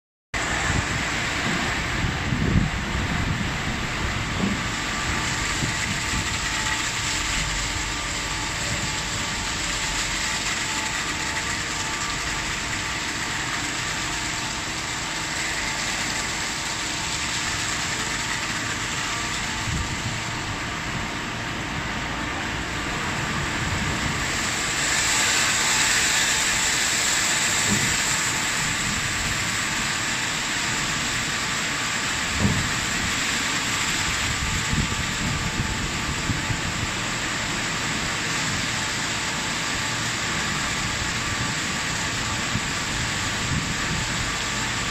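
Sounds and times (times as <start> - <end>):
water spraying and splashing: 0.4 - 21.4, 22.8 - 44.9.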